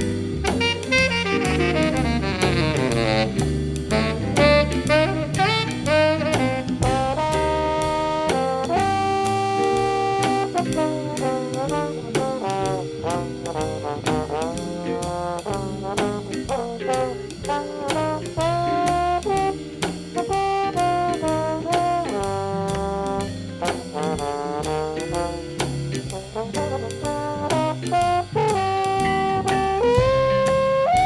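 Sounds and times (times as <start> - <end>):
brass band playing jazz: 0.0 - 31.0
drum kit beat: 0.0 - 31.0.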